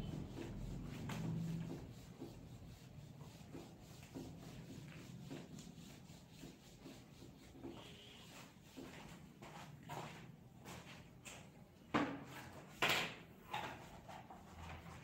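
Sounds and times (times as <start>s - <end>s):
cloth rubbing whiteboard: 0.0s - 11.2s, 13.5s - 15.0s.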